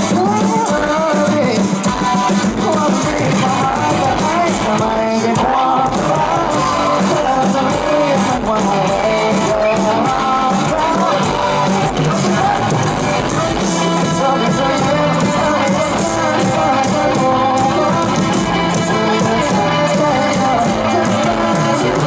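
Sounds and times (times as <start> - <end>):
electric guitars: 0.0 - 22.0
man singing: 0.0 - 22.0.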